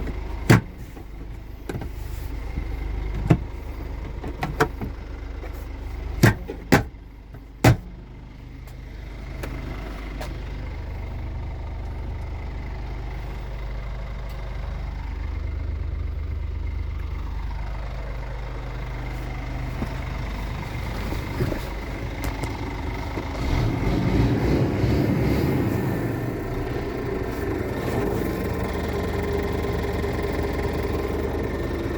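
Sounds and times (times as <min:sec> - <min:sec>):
diesel truck engine idling: 0:00.0 - 0:31.9.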